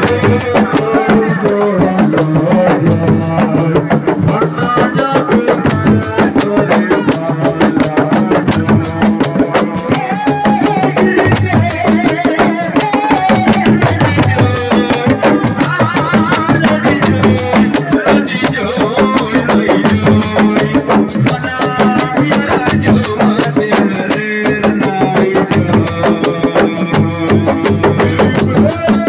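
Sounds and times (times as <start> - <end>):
hand drums and percussion: 0.0 - 29.0
person singing: 0.0 - 29.0.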